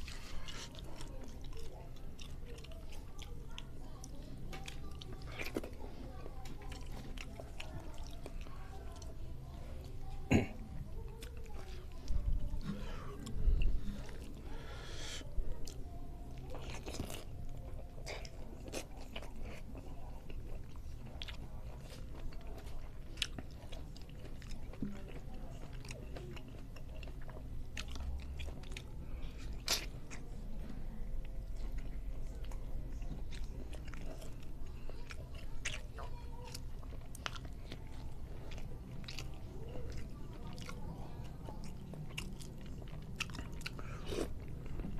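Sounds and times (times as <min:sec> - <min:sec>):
chewing with wet mouth sounds: 0:00.0 - 0:44.9.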